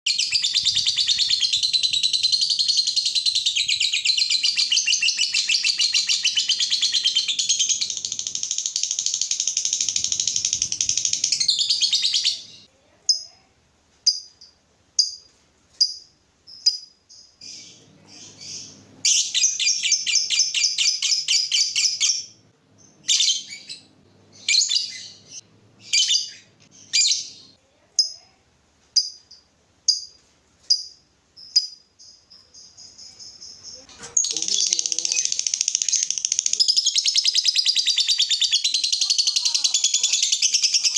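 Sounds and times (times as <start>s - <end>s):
lovebirds chattering and chirping: 0.1s - 13.3s, 15.8s - 28.2s, 29.9s - 40.9s.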